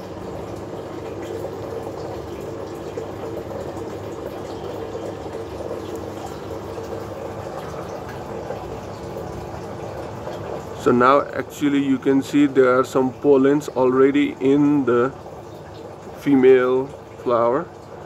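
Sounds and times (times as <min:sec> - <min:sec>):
faint pump hum: 0:00.0 - 0:18.0
water trickling: 0:00.0 - 0:18.0.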